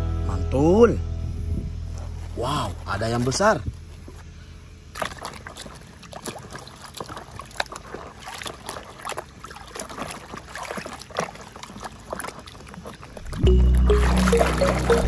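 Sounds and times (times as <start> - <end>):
muddy water sloshing: 2.7 - 15.0.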